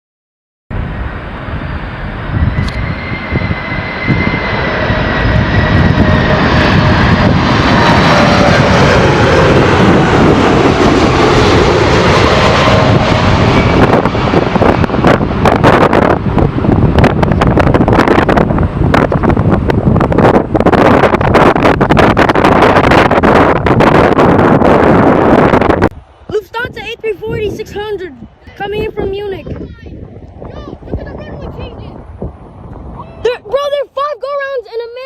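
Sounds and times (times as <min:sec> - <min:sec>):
gusty crackling: 0:00.7 - 0:35.0
jet airliner engine roar: 0:00.7 - 0:35.0.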